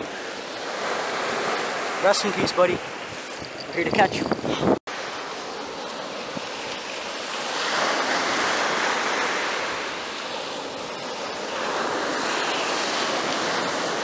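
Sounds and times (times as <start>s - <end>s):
surf washing on shore: 0.0s - 14.0s.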